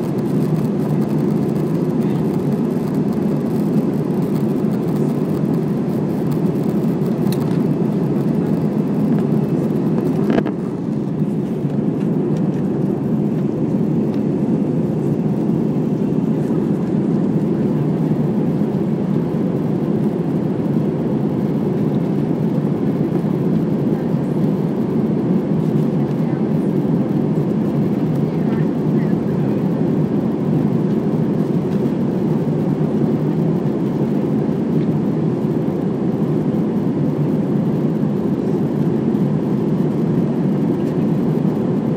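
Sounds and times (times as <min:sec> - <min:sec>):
airplane cabin engine noise: 0:00.0 - 0:41.9.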